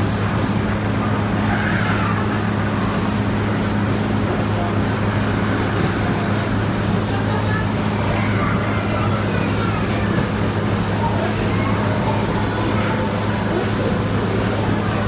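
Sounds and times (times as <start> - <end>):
loud steady rumble: 0.0 - 15.0.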